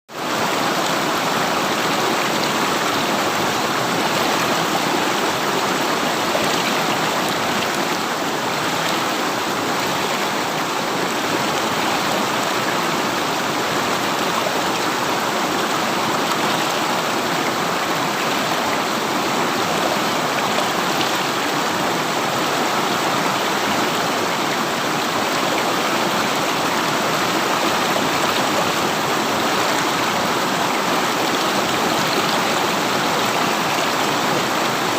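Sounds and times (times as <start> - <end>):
river water flowing: 0.1 - 34.9.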